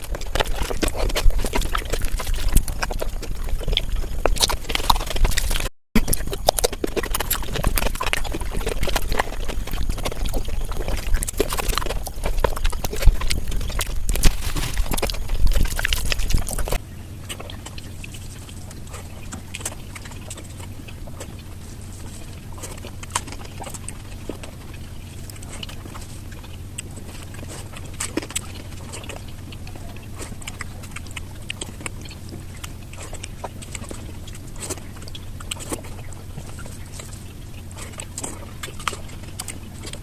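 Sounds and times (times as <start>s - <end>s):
wet chewing and slurping: 0.0s - 40.0s.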